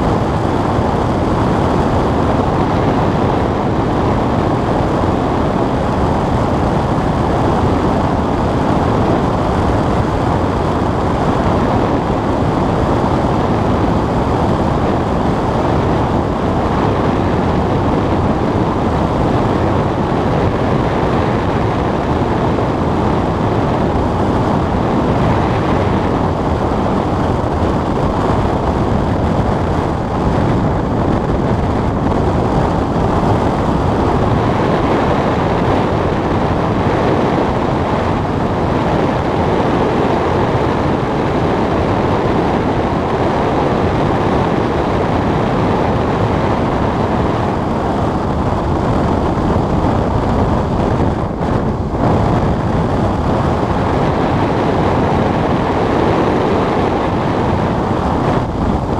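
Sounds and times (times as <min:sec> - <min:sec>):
air rushing over canopy: 0:00.0 - 0:58.9.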